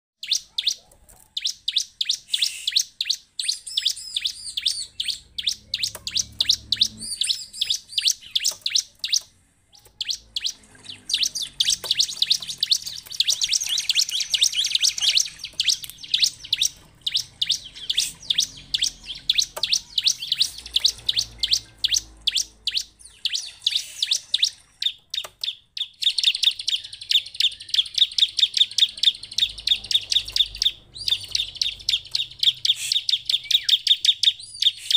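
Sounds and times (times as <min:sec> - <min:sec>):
bird chirping and trilling: 0:00.2 - 0:34.9.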